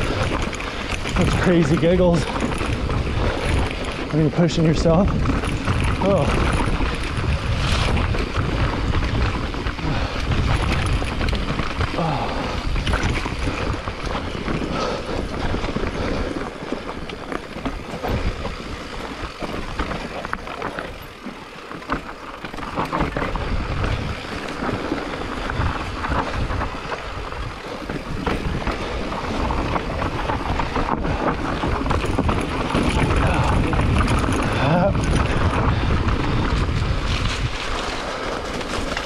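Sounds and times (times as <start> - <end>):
bike rattling over rough trail: 0.0 - 39.0
wind buffeting microphone: 0.0 - 39.0.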